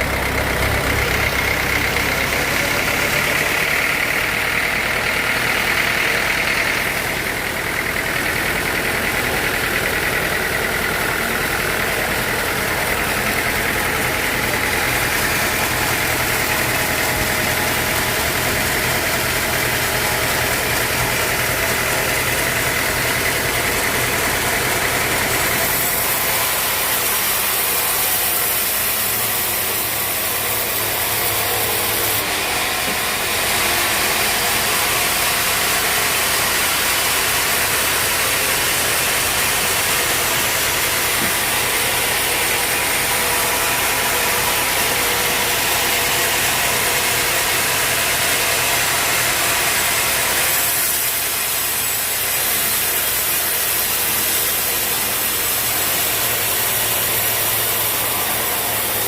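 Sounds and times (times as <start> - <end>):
saw cutting through log: 0.0 - 59.0
sawmill engine running: 0.0 - 59.0.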